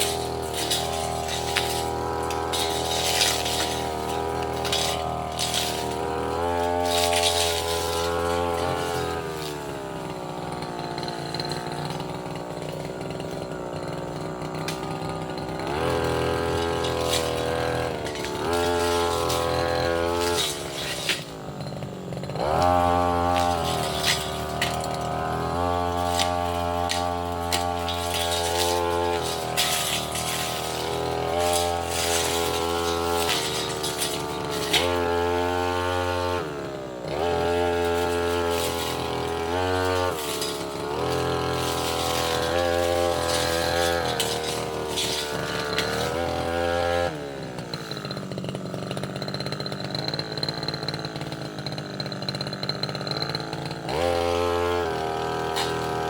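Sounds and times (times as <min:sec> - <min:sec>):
blade clattering against roots: 0:00.0 - 0:56.0
brush cutter engine revving: 0:00.0 - 0:56.0.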